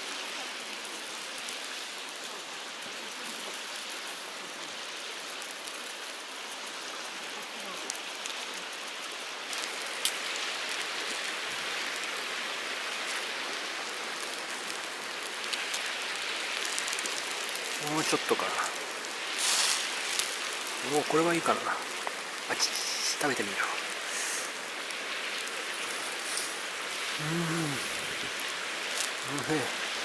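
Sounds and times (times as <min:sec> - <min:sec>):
meat sizzling on charcoal grill: 0:00.0 - 0:30.0
crackles and pop: 0:00.1 - 0:30.0.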